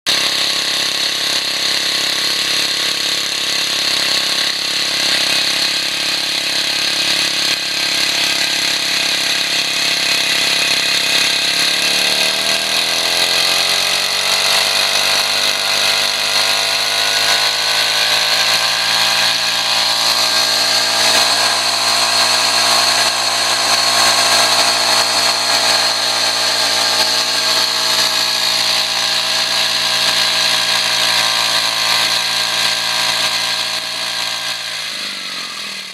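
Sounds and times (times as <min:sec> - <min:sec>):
brush cutter engine running: 0:00.1 - 0:35.9.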